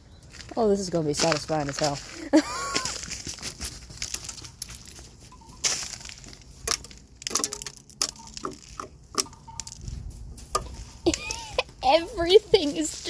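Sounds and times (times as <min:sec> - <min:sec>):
ice crunching and cracking: 0:00.3 - 0:13.0.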